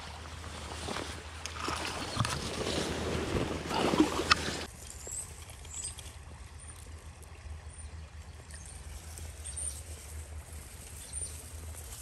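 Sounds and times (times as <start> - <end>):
creek water trickling over gravel: 0.0 - 12.0.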